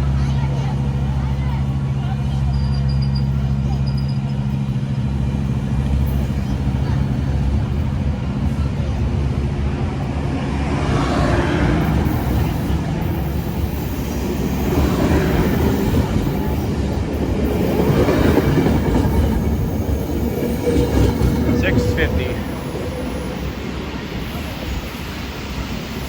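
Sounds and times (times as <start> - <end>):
diesel locomotive pulling out: 0.0 - 26.0.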